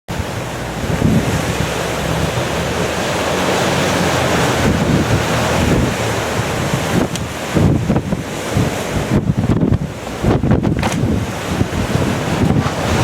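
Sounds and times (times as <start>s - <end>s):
waves rushing: 0.1s - 13.0s
wind buffeting microphone: 0.1s - 13.0s.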